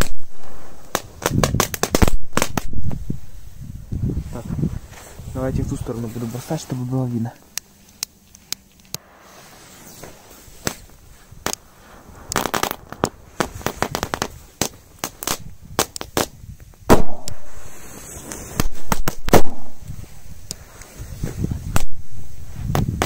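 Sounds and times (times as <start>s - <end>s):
firecracker crackling pops: 0.0s - 3.7s, 7.5s - 23.0s.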